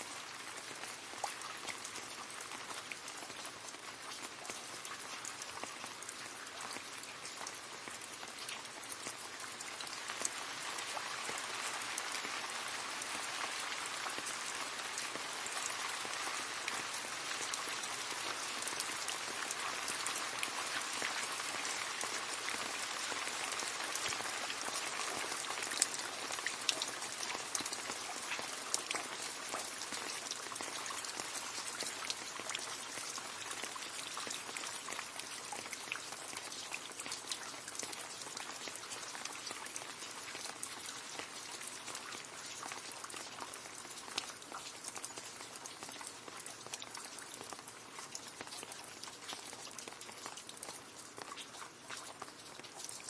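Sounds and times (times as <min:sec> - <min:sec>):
rain falling into a puddle: 0:00.0 - 0:53.0.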